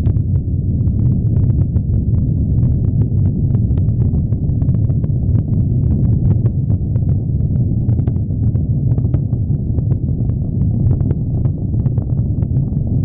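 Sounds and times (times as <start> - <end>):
rocket engine rumble with crackles: 0.0 - 13.0.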